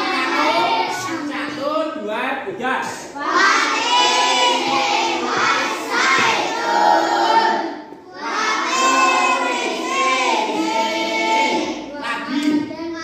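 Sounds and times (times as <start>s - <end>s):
children chanting in unison: 0.0s - 1.2s, 3.2s - 13.0s.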